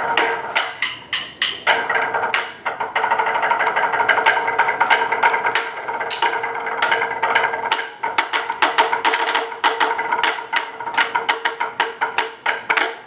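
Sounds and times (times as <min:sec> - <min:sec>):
drumsticks tapping practice pad: 0:00.0 - 0:13.0.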